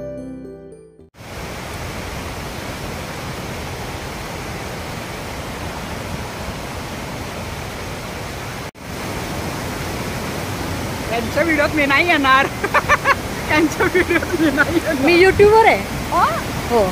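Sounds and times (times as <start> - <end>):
waterfall roaring: 1.2 - 16.9.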